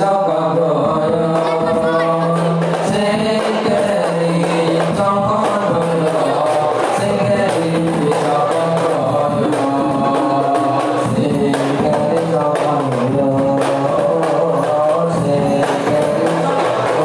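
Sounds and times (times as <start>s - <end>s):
frame drums beating: 0.0s - 17.0s
group of voices singing: 0.0s - 17.0s.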